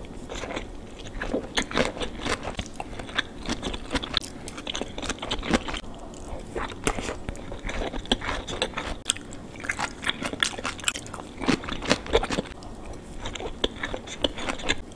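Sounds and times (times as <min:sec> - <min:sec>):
chewing crunchy food: 0:00.0 - 0:14.9.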